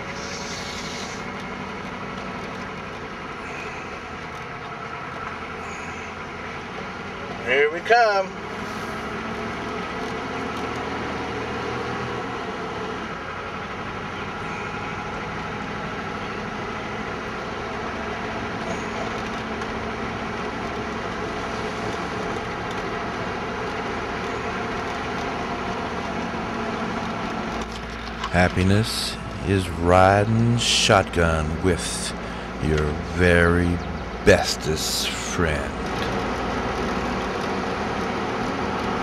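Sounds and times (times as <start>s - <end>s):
car cabin engine and road hum: 0.0s - 39.0s.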